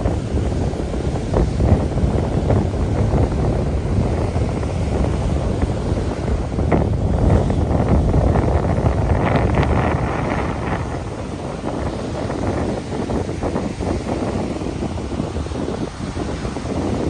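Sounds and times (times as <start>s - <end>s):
surf washing up beach: 0.0s - 17.0s
wind buffeting microphone: 0.0s - 17.0s.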